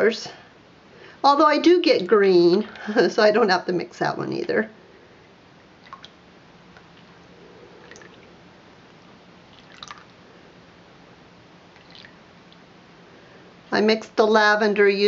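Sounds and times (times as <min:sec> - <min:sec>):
quiet room hum: 0:00.0 - 0:15.0.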